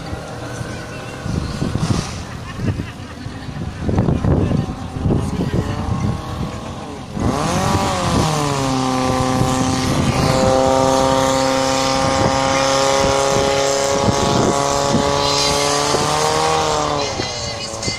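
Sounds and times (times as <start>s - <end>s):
pump engine revving: 0.0s - 17.9s.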